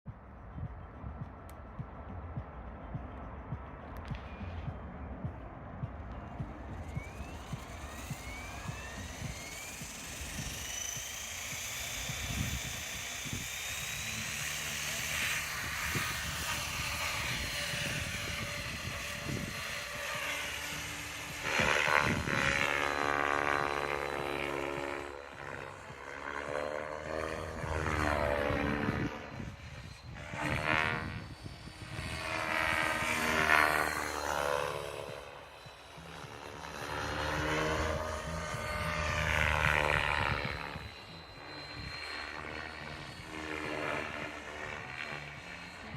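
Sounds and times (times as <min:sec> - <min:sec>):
rc helicopter rotor whine: 0:00.1 - 0:45.9.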